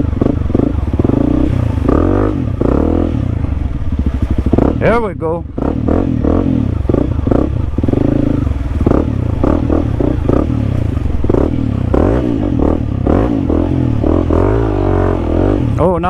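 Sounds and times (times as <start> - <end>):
motorcycle clatter: 0.0 - 16.0
motorcycle engine revving: 0.0 - 16.0.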